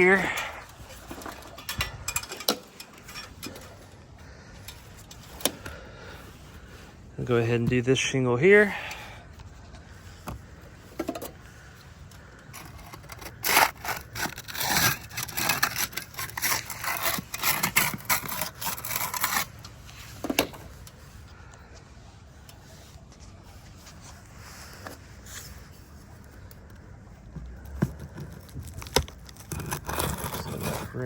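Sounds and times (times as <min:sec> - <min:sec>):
shingle scraping and crackling: 0:00.0 - 0:21.6, 0:22.6 - 0:31.0.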